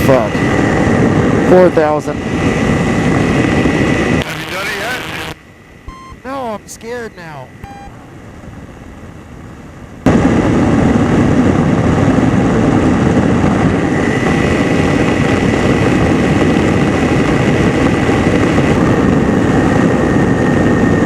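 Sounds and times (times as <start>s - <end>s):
ultralight aircraft engine: 0.0s - 21.0s
wind rush: 0.0s - 21.0s.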